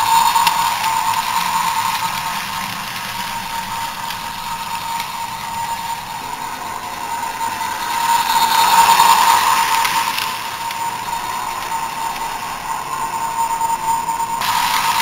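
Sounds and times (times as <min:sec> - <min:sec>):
toy train motor whining: 0:00.0 - 0:15.0.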